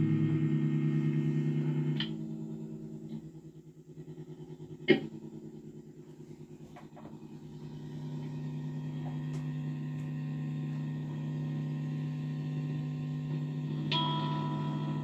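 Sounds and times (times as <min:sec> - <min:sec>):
low pulsing drone: 0:00.0 - 0:15.0.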